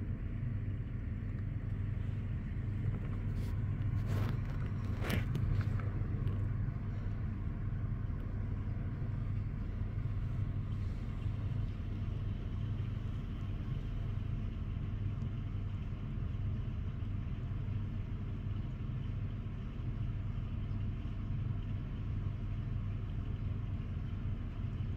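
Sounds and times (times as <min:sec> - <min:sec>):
distant city traffic rumble: 0:00.0 - 0:24.9.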